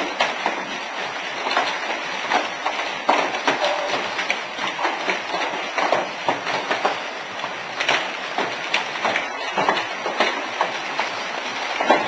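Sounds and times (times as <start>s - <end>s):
hail clattering on metal roof: 0.0s - 12.0s.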